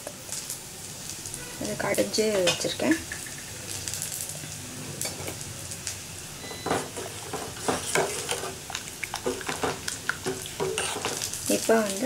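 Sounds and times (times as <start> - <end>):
soup boiling in a pot: 0.0 - 12.0.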